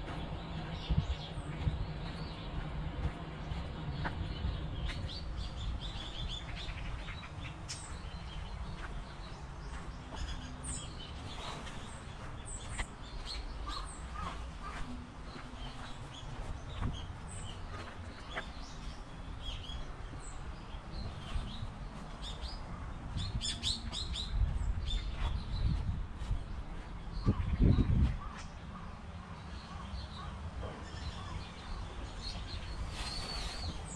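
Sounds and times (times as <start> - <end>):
steady low rumble: 0.0 - 33.0
small birds chirping: 0.0 - 33.9.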